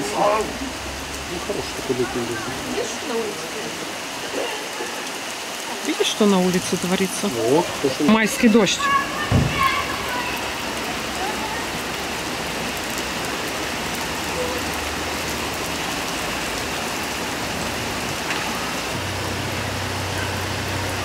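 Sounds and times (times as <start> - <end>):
heavy rain splashing: 0.0 - 21.0.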